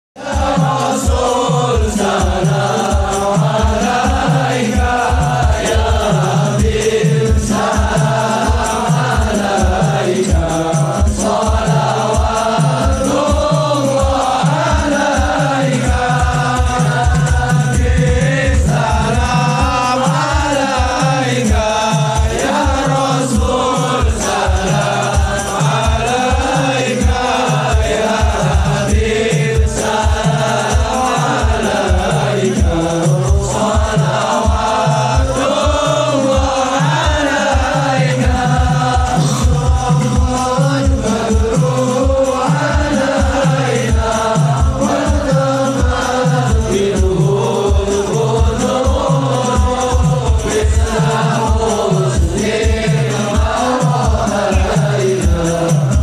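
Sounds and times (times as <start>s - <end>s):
devotional singing: 0.2s - 56.0s
frame drums beating: 0.2s - 56.0s.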